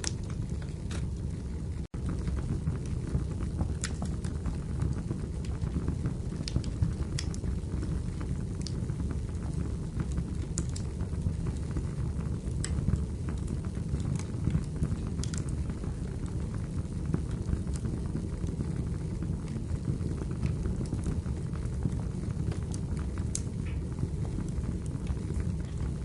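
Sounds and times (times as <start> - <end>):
fire flames rumbling: 0.0 - 26.0
firewood crackling and popping: 0.0 - 26.0.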